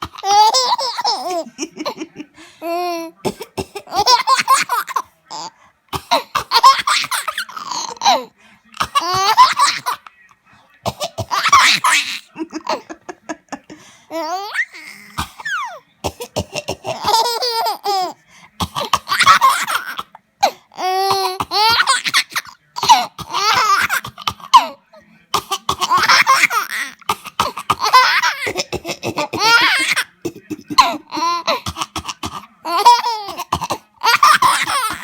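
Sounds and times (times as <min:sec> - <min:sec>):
baby coughing: 0:00.0 - 0:02.0, 0:02.6 - 0:10.1, 0:10.8 - 0:12.9, 0:14.1 - 0:35.0.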